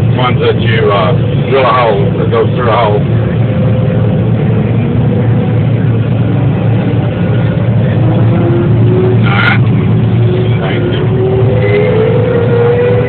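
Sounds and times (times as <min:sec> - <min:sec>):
combine engine drone: 0:00.0 - 0:13.0.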